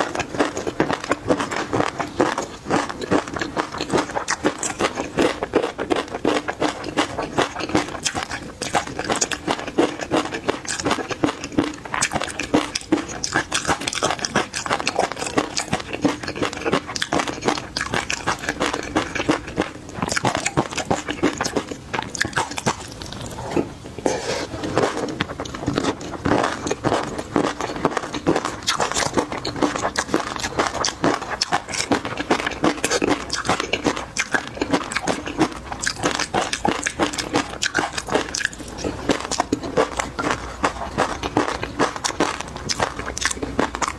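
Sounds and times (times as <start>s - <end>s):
chewing and crunching: 0.0s - 43.9s.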